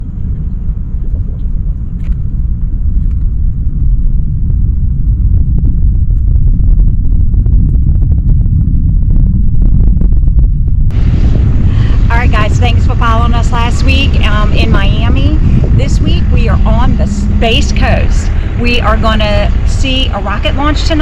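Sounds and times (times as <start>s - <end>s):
distant rocket launch rumble: 0.0s - 21.0s.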